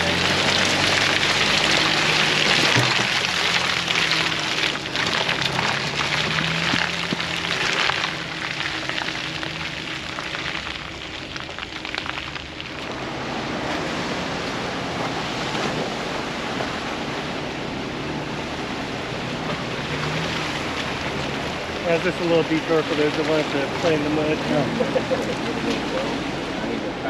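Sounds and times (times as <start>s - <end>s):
engine running low: 0.0s - 27.0s
tyres splashing through mud: 0.0s - 27.0s.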